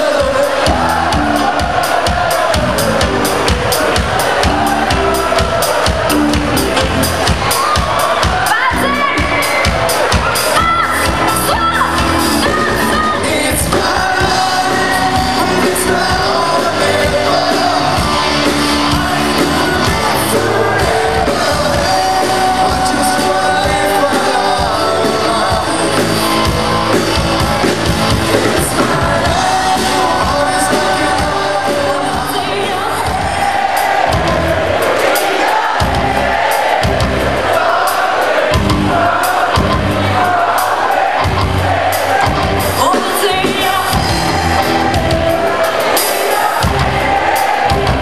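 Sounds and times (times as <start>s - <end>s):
lead singer: 0.0s - 48.0s
live pop band: 0.0s - 48.0s.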